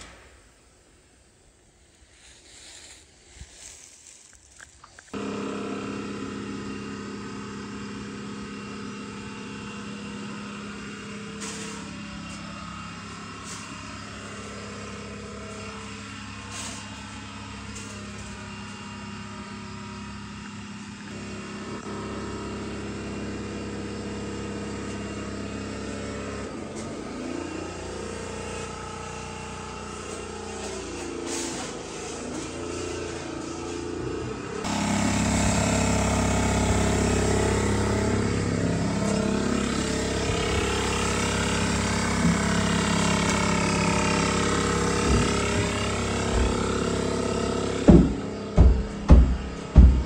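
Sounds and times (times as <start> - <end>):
engine running: 1.8 - 50.0.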